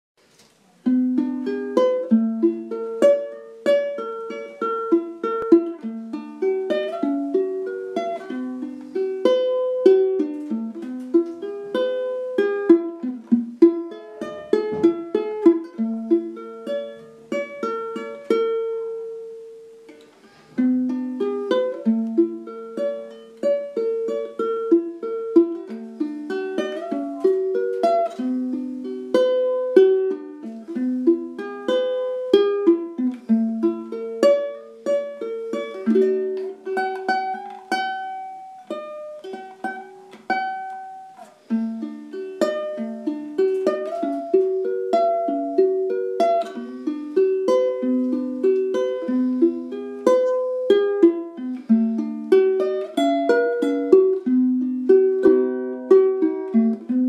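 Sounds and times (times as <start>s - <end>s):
plucked string instrument melody: 0.2s - 57.0s.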